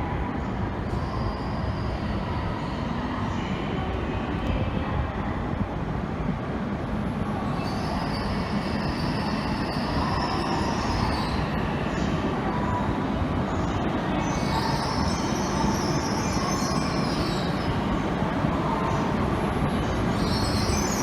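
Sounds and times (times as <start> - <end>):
high whine of train: 0.0 - 21.0
train rumble: 0.0 - 21.0.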